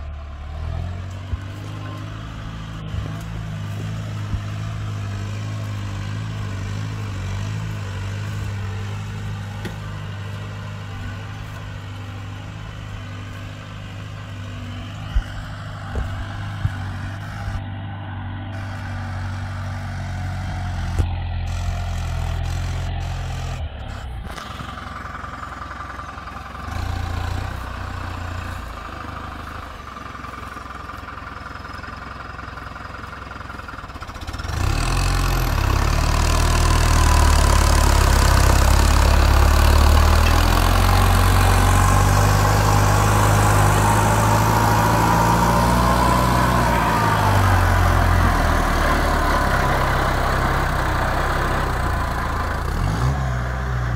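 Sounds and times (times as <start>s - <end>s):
tractor diesel engine drone: 0.0s - 53.9s.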